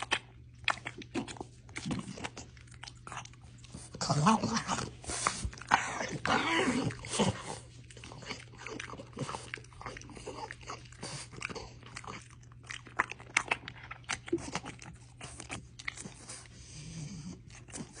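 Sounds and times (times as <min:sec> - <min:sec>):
dog chewing crunchy treat: 0:00.0 - 0:18.0.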